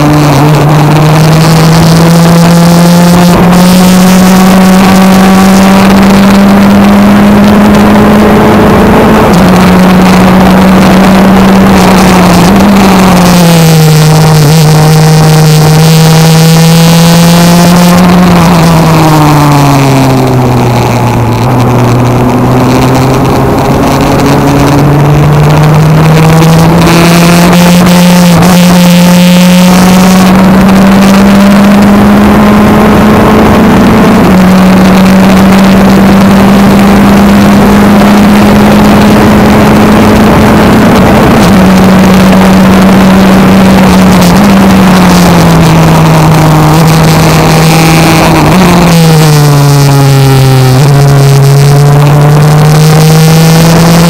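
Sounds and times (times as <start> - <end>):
racing car engine at full throttle: 0.0 - 54.0.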